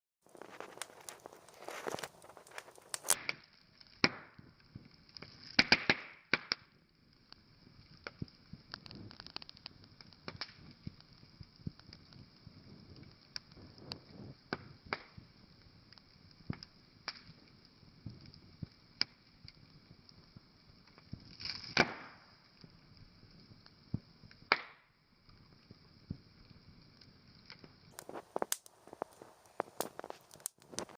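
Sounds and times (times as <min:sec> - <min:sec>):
wood fire crackling and popping: 0:00.2 - 0:30.9.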